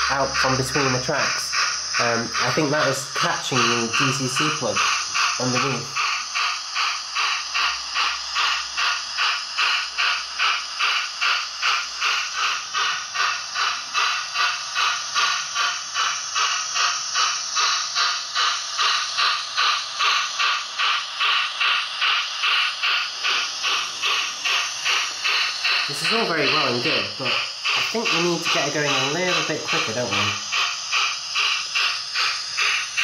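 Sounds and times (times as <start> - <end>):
steam locomotive exhaust chuffs: 0.0 - 33.0.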